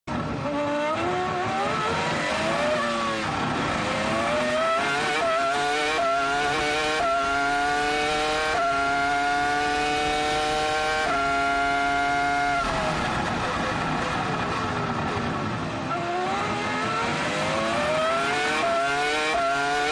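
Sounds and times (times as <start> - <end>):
race car engine revving with upshifts: 0.1 - 19.9.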